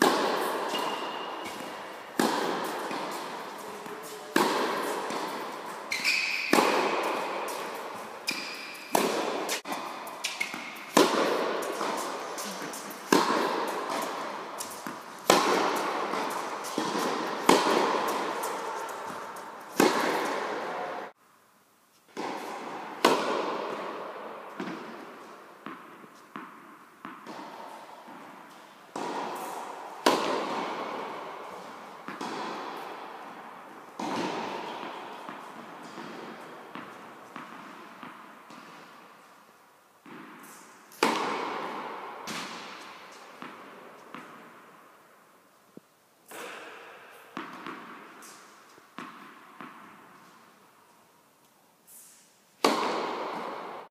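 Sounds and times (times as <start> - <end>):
tennis ball bounces: 0.0 - 21.1, 22.1 - 39.0, 40.0 - 44.7, 46.3 - 50.4, 52.6 - 53.8
tennis racket strikes: 0.0 - 21.2, 22.1 - 39.0, 40.0 - 44.7, 46.3 - 50.5, 52.0 - 53.9.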